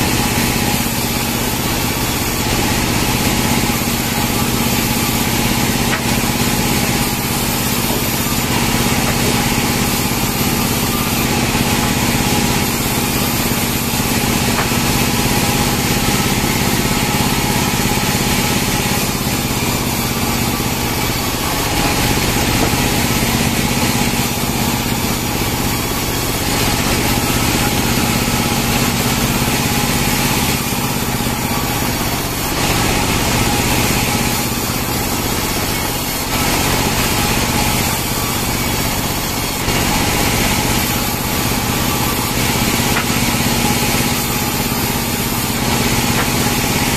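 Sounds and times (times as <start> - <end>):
band sawmill humming: 0.0 - 46.9.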